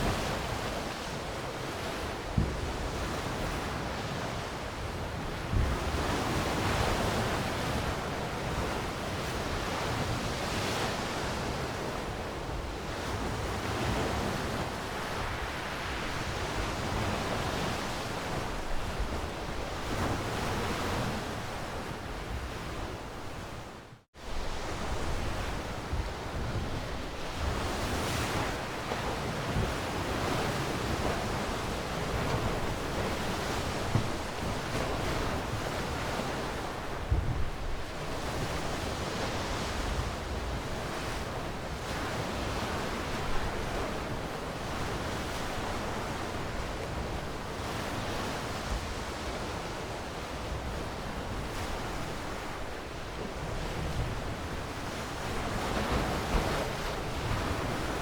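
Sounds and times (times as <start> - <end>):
sea waves breaking ashore: 0.0 - 58.0.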